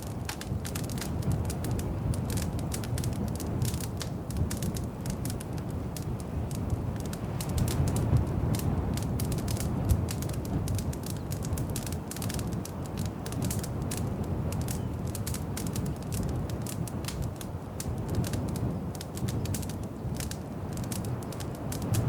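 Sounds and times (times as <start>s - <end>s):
fire pops and snaps: 0.0s - 22.0s
low rumble of flames: 0.0s - 22.0s.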